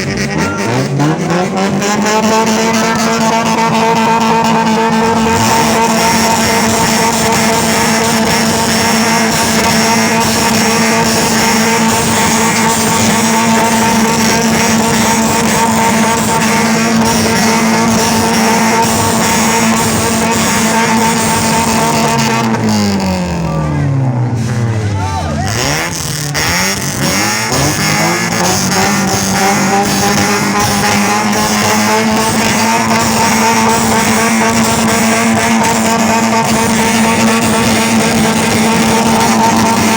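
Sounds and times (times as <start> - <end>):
car engine revving high: 0.0 - 39.9.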